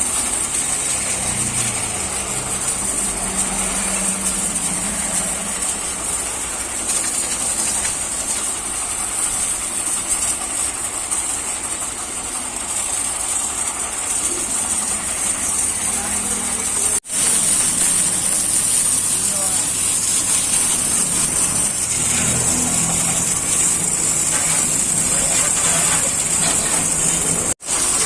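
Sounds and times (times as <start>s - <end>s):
engine humming: 0.0s - 9.6s, 11.7s - 28.0s
pressure washer spraying water: 0.0s - 28.0s.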